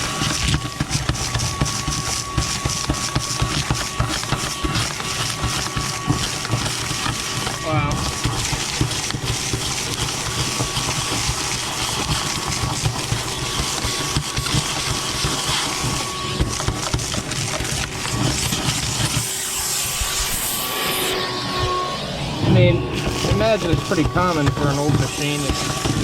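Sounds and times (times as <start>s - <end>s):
grit rattling up vacuum: 0.0s - 26.0s
vacuum cleaner running: 0.0s - 26.0s.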